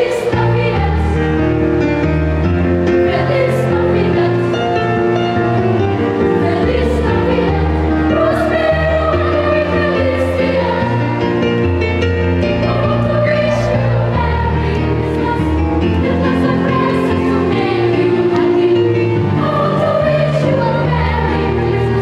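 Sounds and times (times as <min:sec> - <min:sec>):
children's choir singing: 0:00.0 - 0:01.7, 0:02.9 - 0:05.4, 0:06.0 - 0:22.0.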